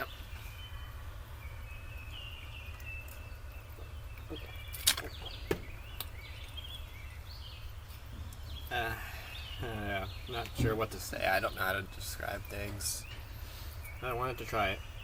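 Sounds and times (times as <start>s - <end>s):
faint bird chirps: 0.0s - 15.0s
steady low hum: 0.0s - 15.0s.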